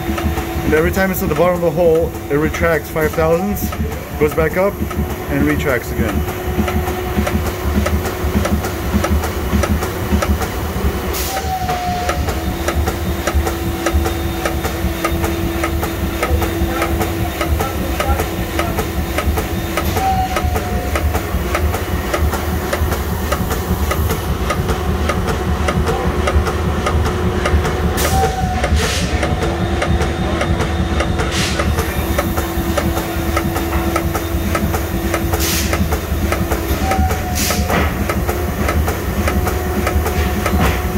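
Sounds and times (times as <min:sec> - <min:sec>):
machine hum: 0:00.0 - 0:40.9.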